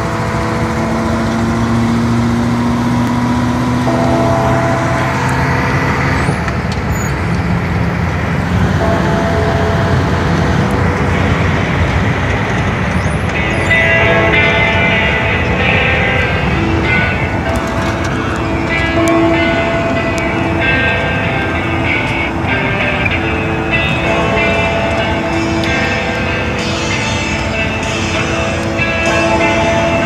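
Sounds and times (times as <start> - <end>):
diesel truck engine pulling: 0.0 - 30.0
tyre and road rumble: 0.0 - 30.0.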